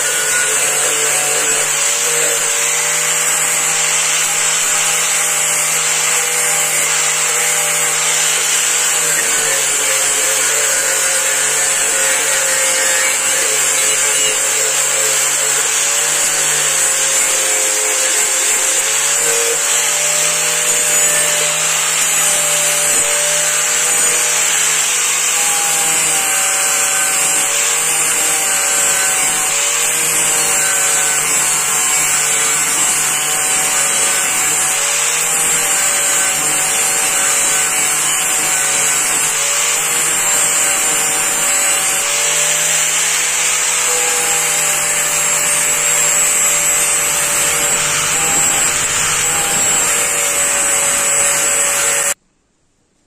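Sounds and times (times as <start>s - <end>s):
angle grinder grinding steel: 0.0s - 52.2s.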